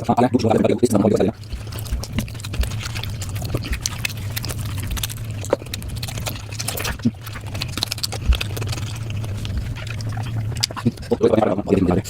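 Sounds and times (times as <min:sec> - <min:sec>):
chewing and mouth smacking: 0:00.0 - 0:12.0
steady low hum: 0:00.0 - 0:12.0.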